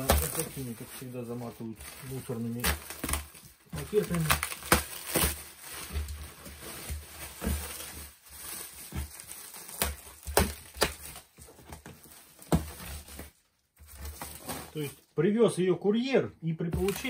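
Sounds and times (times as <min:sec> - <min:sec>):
plastic film crinkling: 0:00.0 - 0:15.0, 0:16.7 - 0:17.0.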